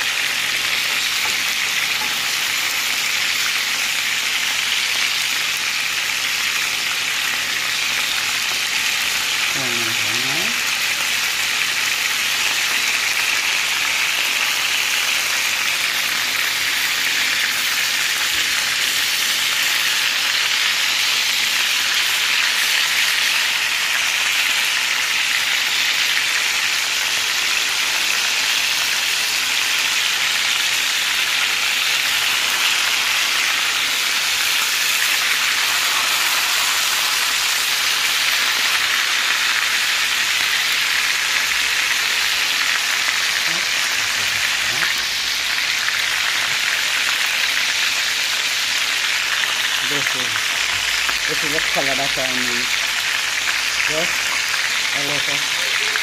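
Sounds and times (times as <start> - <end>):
chicken sizzling in oil: 0.0 - 56.0.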